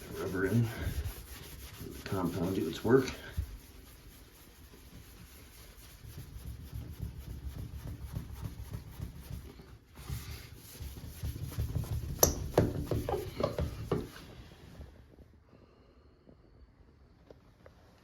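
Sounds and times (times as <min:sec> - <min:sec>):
hand rubbing compound on fiberglass: 0:00.0 - 0:15.1.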